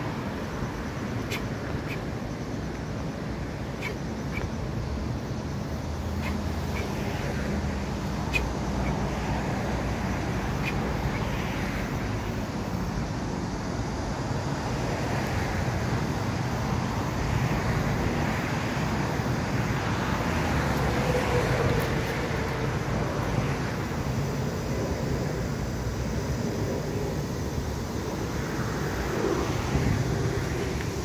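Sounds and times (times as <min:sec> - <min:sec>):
road traffic noise: 0:00.0 - 0:31.0.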